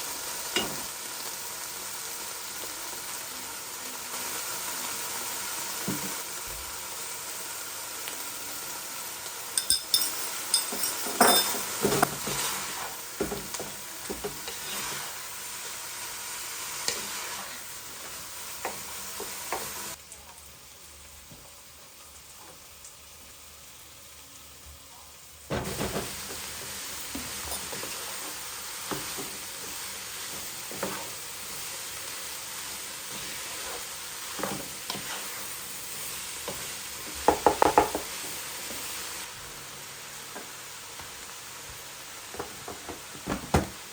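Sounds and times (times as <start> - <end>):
food sizzling in a frying pan: 0.0 - 43.9.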